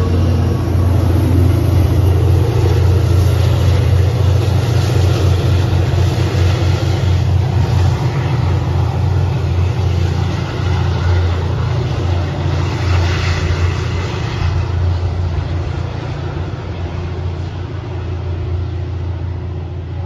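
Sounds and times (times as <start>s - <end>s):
diesel locomotive engine drone: 0.0s - 20.0s
rail noise: 0.0s - 20.0s.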